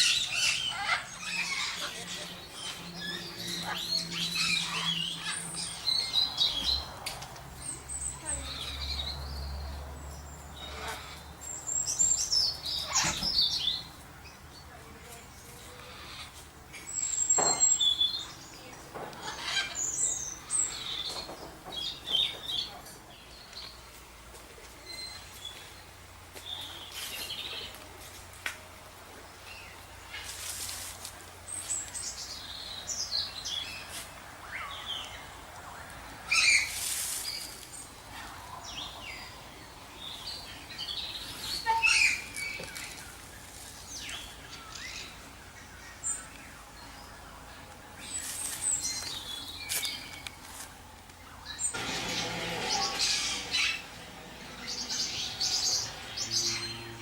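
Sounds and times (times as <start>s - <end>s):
small birds chirping: 0.0s - 28.4s, 29.1s - 57.0s.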